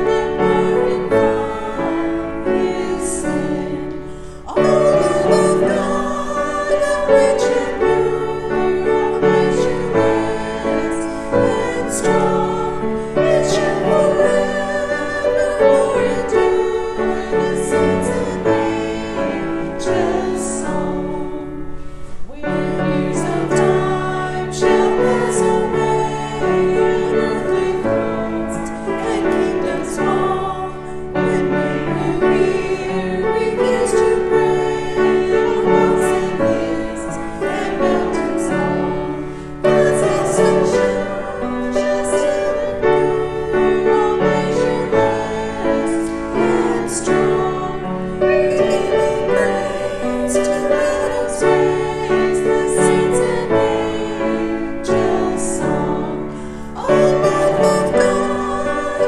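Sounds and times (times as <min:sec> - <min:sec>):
piano accompaniment: 0:00.0 - 0:59.0
voices singing a hymn: 0:00.0 - 0:59.0.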